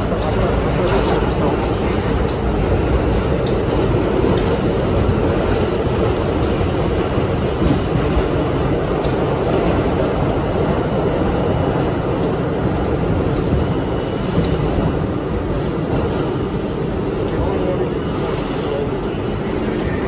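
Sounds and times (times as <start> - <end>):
subway train wheels rumbling on rails: 0.0 - 20.0.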